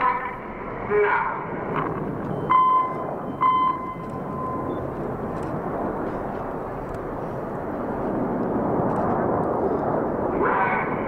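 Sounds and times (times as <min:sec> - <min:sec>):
jets roaring past: 0:00.0 - 0:11.0.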